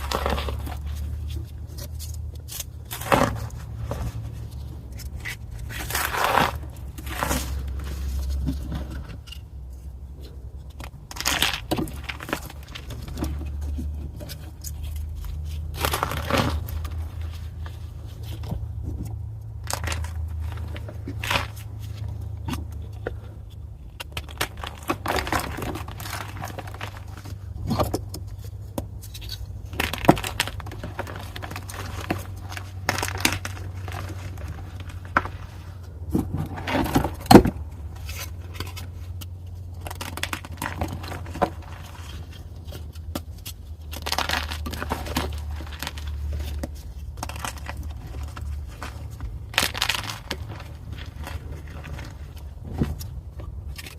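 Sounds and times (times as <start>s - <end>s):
chalk crunching and scraping: 0.0s - 53.9s.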